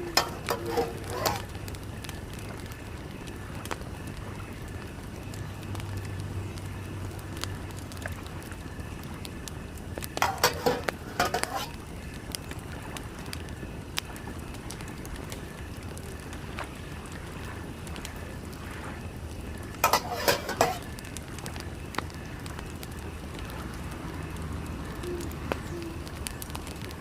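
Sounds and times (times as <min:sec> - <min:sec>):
wood fire crackling in a stove: 0:00.0 - 0:27.0.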